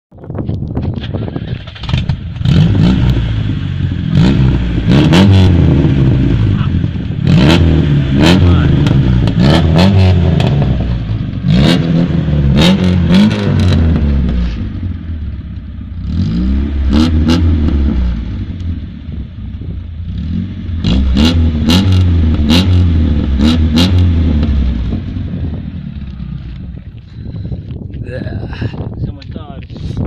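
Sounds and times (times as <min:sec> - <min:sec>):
exhaust cracks: 0:00.3 - 0:30.0
car engine revving: 0:01.2 - 0:27.2.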